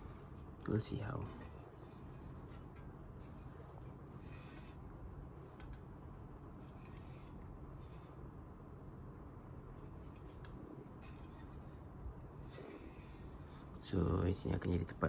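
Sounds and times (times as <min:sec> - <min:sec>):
soft rubbing and scraping: 0:00.0 - 0:05.6, 0:06.5 - 0:08.3, 0:09.7 - 0:15.0
low steady hum: 0:00.0 - 0:15.0.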